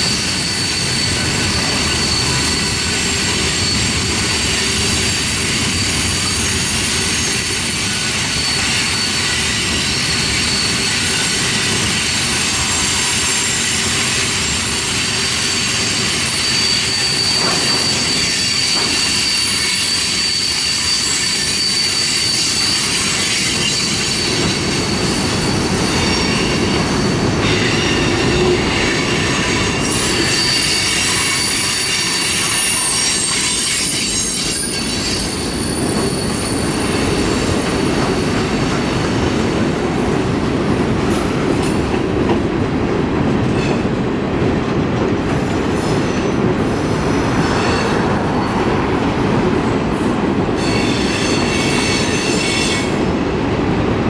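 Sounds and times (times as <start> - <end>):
wheels squealing against rail: 0.0 - 42.4, 43.4 - 44.0, 45.2 - 53.2.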